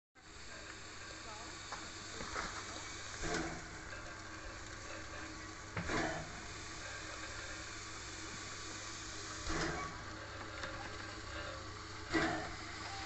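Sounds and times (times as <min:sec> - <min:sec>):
steam hissing from locomotive: 0:00.2 - 0:13.0.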